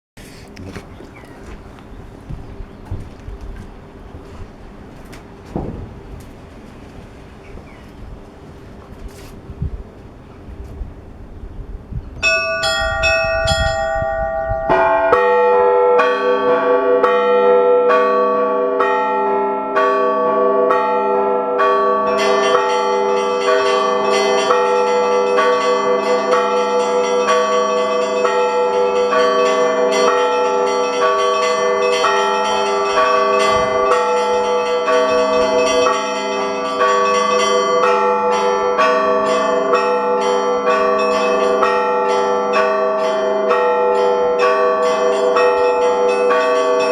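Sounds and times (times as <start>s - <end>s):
large bells ringing: 0.2s - 46.9s.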